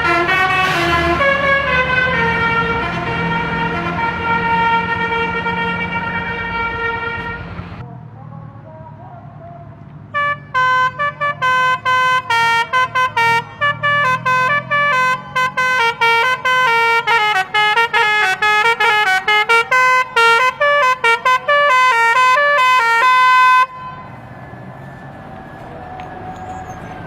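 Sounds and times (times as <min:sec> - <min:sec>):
musical bus horn tune: 0:00.0 - 0:07.8, 0:10.1 - 0:24.7.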